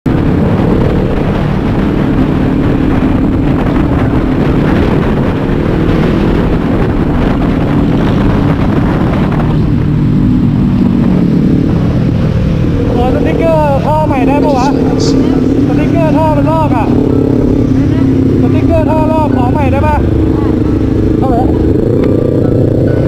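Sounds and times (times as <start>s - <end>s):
wind and road noise: 0.0s - 23.0s
motorcycle engine running: 0.1s - 23.0s.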